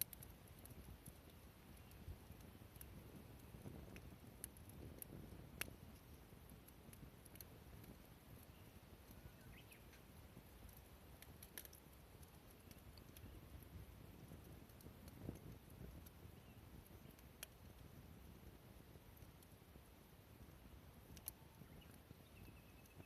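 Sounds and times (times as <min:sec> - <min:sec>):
faint sharp clicks and ticks: 0:00.0 - 0:23.0.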